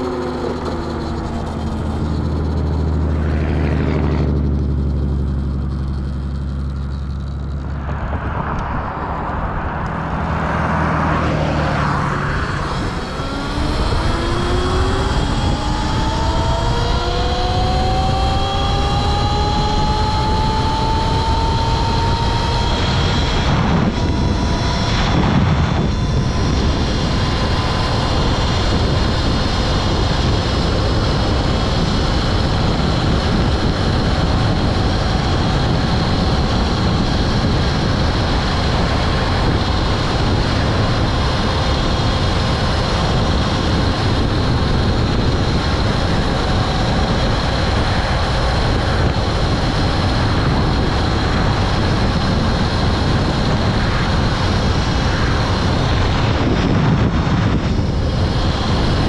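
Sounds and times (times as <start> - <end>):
electric motor whine: 0.0 - 59.0
wind and road noise: 0.0 - 59.0.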